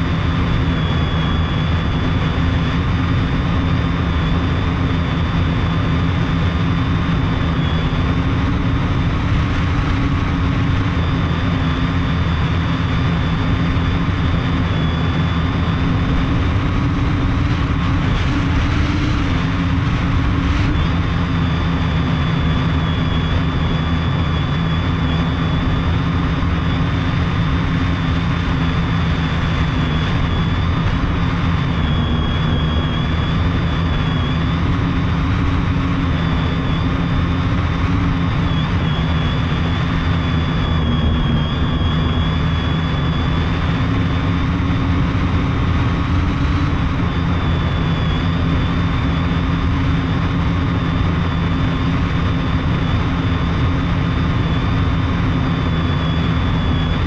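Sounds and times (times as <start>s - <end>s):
drone motors and propellers: 0.0s - 57.0s.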